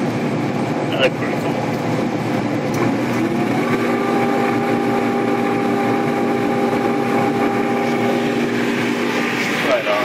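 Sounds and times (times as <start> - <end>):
gas burner and blower running: 0.0 - 10.0
steady multi-tone hum: 0.0 - 10.0.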